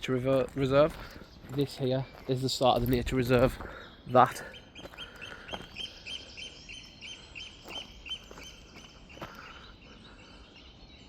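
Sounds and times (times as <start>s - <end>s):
bird high piping calls: 0.0s - 11.0s.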